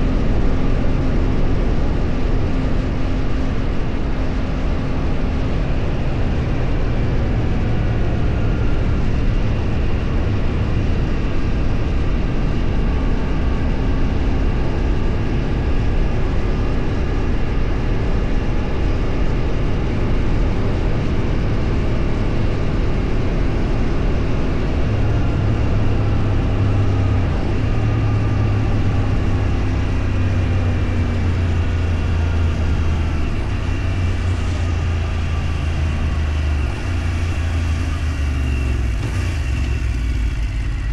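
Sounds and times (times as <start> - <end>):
road and wind noise: 0.0 - 40.9
vehicle engine running: 0.0 - 40.9.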